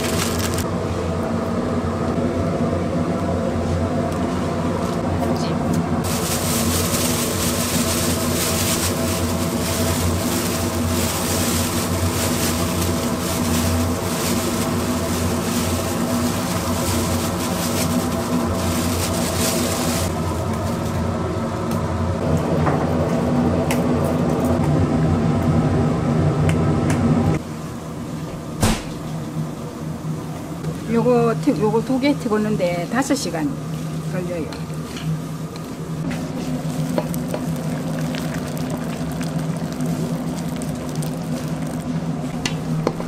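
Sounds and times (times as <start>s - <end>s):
machine humming: 0.0s - 43.0s.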